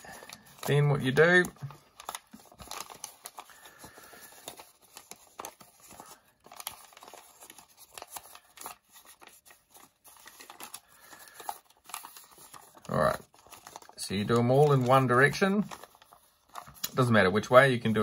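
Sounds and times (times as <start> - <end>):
paper crinkling: 0.0 - 18.0.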